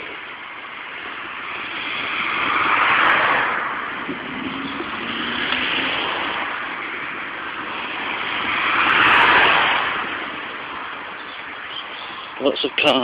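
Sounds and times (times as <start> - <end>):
cars passing: 0.0 - 13.0.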